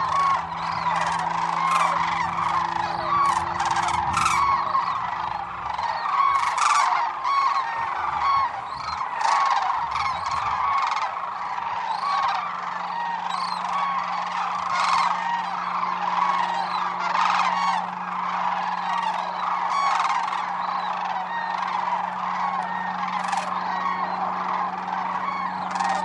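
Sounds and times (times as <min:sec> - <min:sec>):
flock of cranes calling: 0:00.0 - 0:26.0.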